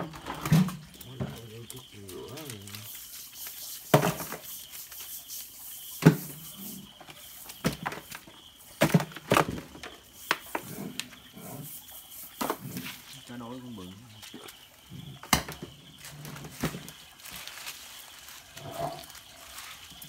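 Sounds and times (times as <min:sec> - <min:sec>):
prawns and leaves rustling: 0:00.0 - 0:20.0.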